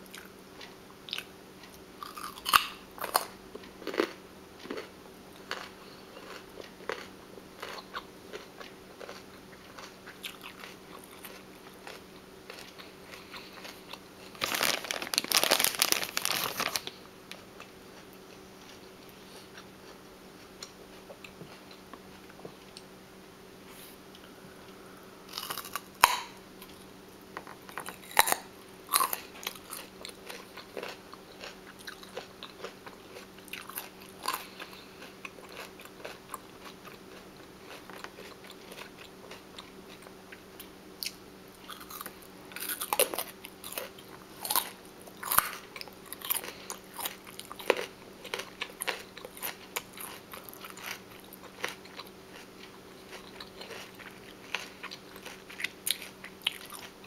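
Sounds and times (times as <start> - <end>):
crunchy food biting and chewing: 0.0 - 17.0, 25.3 - 26.9, 27.6 - 40.4, 41.0 - 57.0
faint steady hum: 0.0 - 57.0.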